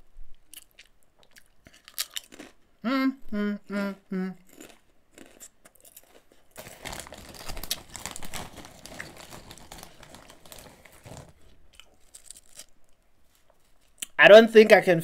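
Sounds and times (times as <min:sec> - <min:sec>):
potato chips being chewed: 0:00.3 - 0:02.6, 0:04.4 - 0:14.2.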